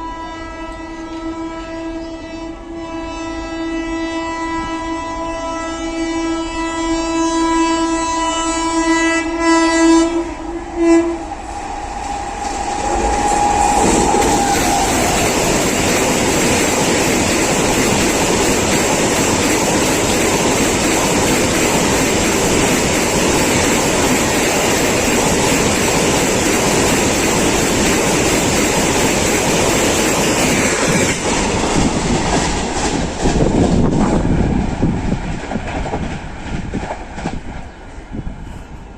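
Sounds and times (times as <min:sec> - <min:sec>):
train passing at high speed: 0:00.0 - 0:38.9.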